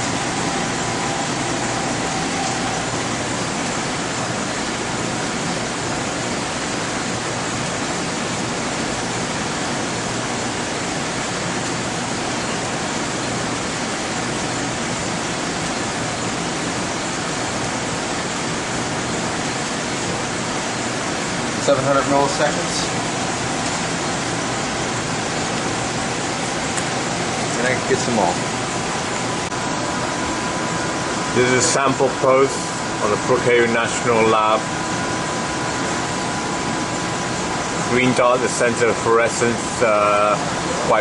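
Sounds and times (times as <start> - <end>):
equipment fans hissing and humming: 0.0 - 41.0.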